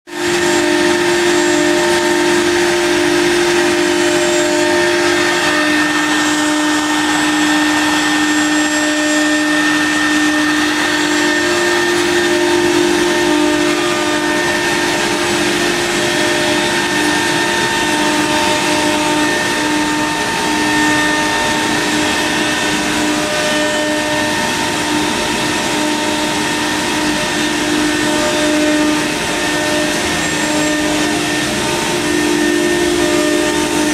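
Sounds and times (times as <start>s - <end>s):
router cutting wood rushing noise: 0.1s - 33.9s
router spindle whine: 0.1s - 33.9s.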